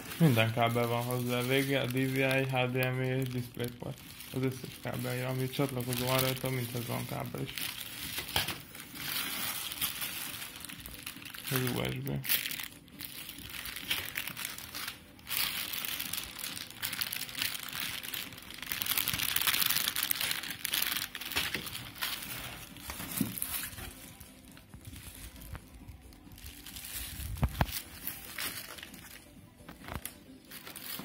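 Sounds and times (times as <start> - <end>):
plastic bags crinkling: 0.0 - 31.0.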